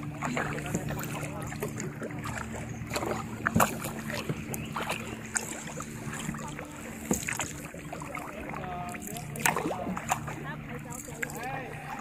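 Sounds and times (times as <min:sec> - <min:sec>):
paddle strokes splashing: 0:00.0 - 0:12.0
steady low hum: 0:00.0 - 0:12.0.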